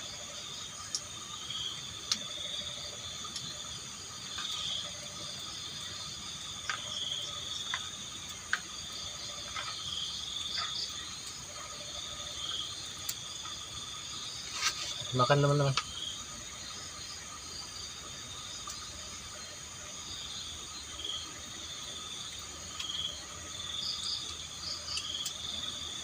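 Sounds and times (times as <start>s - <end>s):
crickets and insects chirping: 0.0s - 26.0s.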